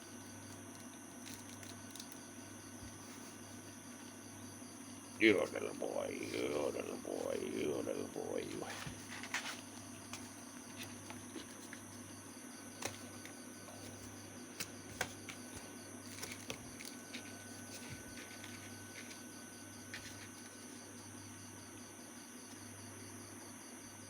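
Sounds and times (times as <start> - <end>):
low steady hum: 0.0 - 24.0
night insects chirping: 0.0 - 24.0.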